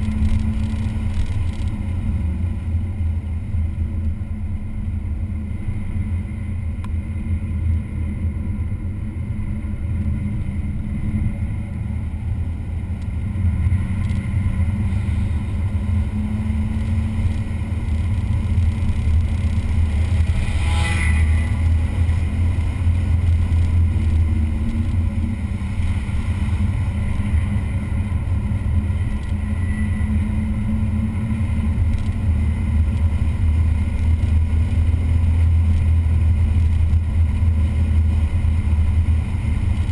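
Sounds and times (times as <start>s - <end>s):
race car engine droning: 0.0s - 39.9s.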